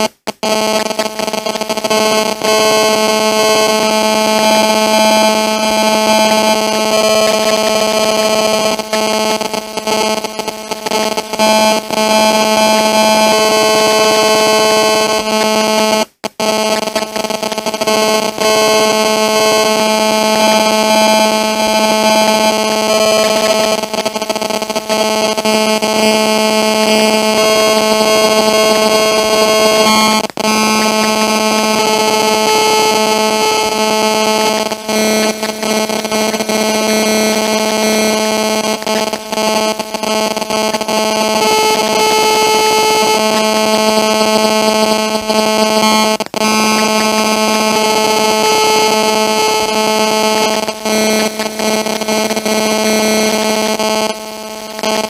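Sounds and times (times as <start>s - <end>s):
electronic interference buzz: 0.0s - 55.0s.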